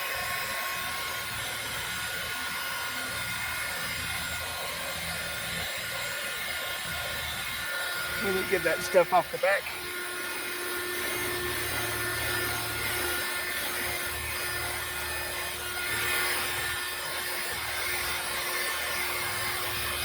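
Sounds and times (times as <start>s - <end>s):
handheld vacuum motor whine: 0.0s - 20.0s.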